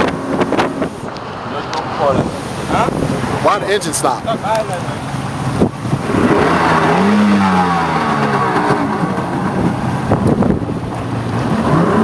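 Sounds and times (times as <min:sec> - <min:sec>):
boat engine revving: 0:00.0 - 0:12.0.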